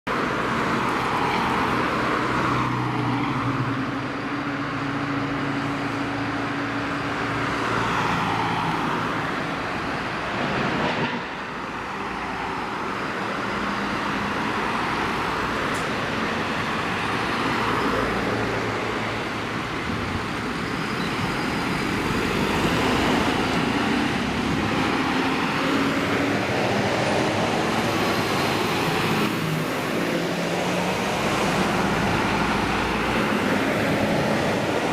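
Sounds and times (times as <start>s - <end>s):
vehicles passing: 0.1s - 34.9s
background traffic rumble: 0.2s - 34.9s.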